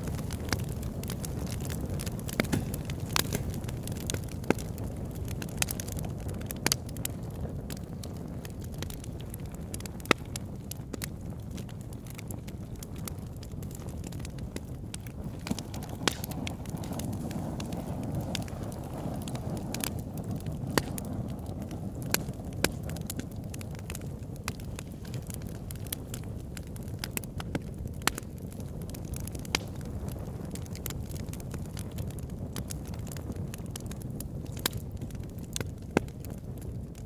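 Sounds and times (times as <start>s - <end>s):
fire low rush: 0.0s - 31.0s
log fire crackling and popping: 0.0s - 37.0s.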